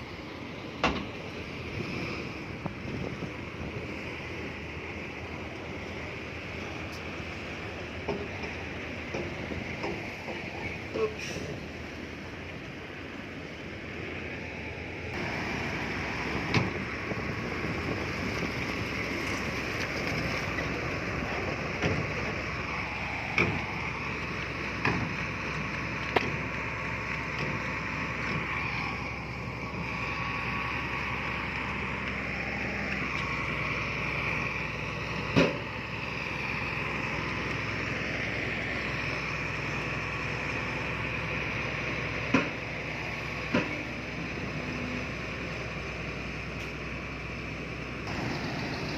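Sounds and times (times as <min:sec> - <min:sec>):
diesel engine of heavy machinery: 0:00.0 - 0:48.9.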